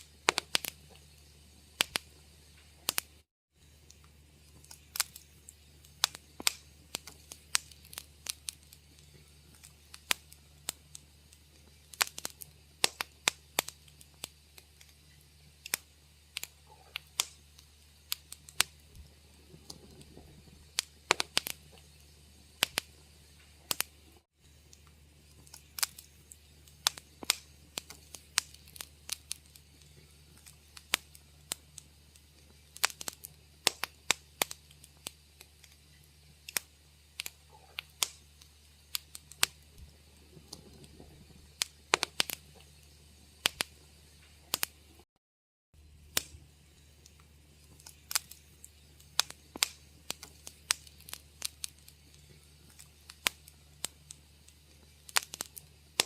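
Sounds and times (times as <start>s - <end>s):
steady low hum: 0.0s - 45.0s
wood fire crackling: 0.0s - 45.1s, 45.8s - 56.0s.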